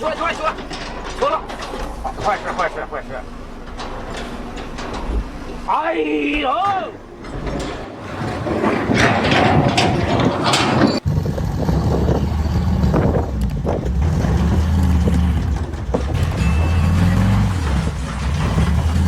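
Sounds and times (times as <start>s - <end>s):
heavy vehicle engine rumbling: 0.0s - 19.0s
noisy clattering: 0.0s - 19.0s.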